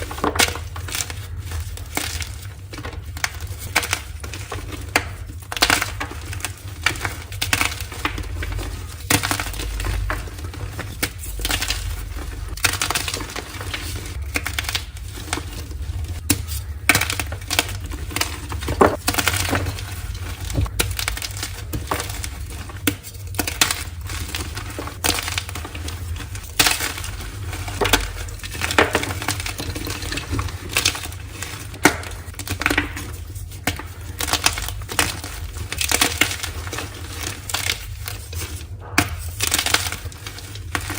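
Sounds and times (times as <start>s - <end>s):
chalk crunching and cracking: 0.0s - 40.9s.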